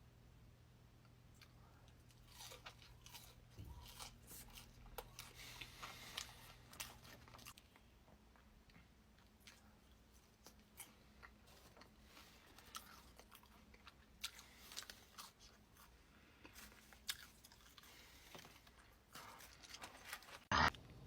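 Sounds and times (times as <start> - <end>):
chewing and crunching food: 1.3 - 20.9.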